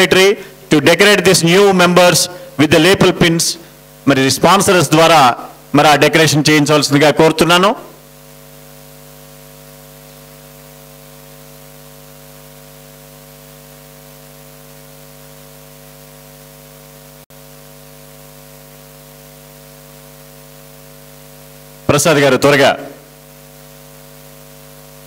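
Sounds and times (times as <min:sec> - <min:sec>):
electrical mains hum: 0:00.0 - 0:25.0
microphone line hiss: 0:00.0 - 0:25.0.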